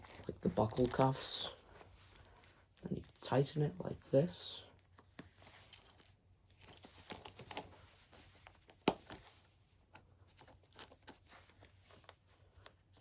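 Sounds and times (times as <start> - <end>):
leather straps rustling: 0.0 - 3.2, 4.9 - 13.0.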